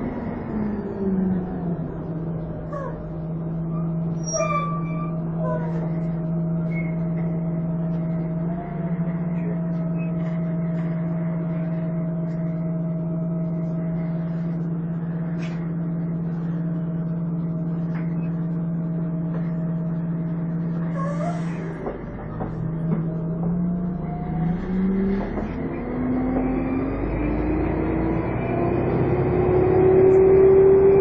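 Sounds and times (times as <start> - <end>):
bus engine whine: 0.0 - 31.0.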